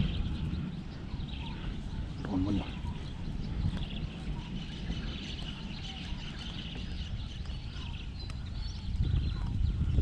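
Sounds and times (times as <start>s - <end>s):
high chirping chorus: 0.0s - 10.0s
low rumble of water or wind: 0.0s - 10.0s.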